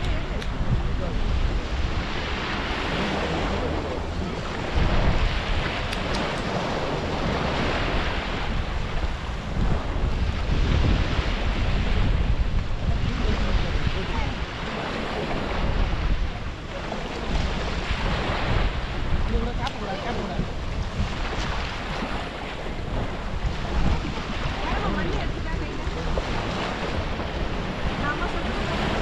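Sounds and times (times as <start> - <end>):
sea waves breaking on shore: 0.0 - 29.0
wind rumble on microphone: 0.0 - 29.0.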